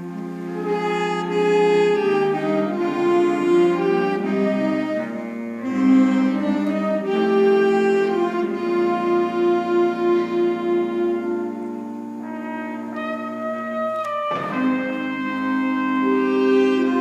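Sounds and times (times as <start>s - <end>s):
wind band playing sustained chords: 0.0s - 17.0s.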